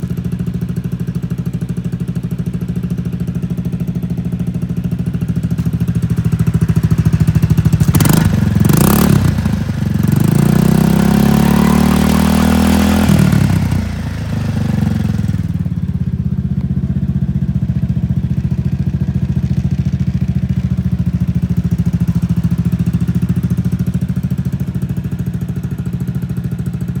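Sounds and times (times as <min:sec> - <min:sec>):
scooter engine idling and revving: 0:00.0 - 0:27.0.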